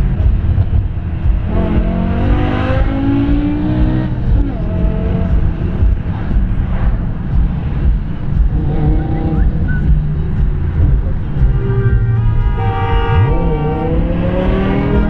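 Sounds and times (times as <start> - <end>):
car engine running loudly: 0.0 - 15.0
road rumble: 0.0 - 15.0.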